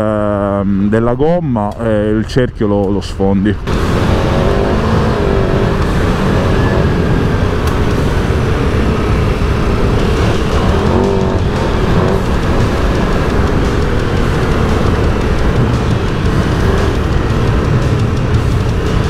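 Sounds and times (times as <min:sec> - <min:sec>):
wind and road noise: 0:00.0 - 0:19.0
motorcycle engine running: 0:03.6 - 0:19.0.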